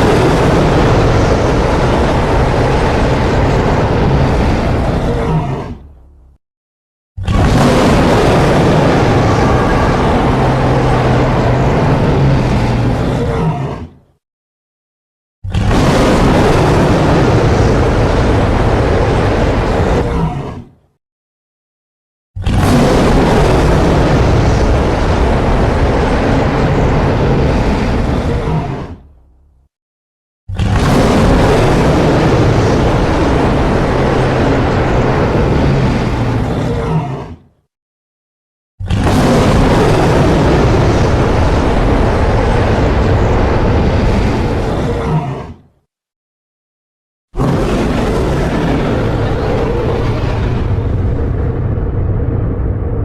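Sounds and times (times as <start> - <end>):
monster roar: 0.0 - 6.0, 7.2 - 14.1, 15.5 - 20.8, 22.4 - 29.1, 30.5 - 37.6, 38.8 - 45.8, 47.4 - 53.0.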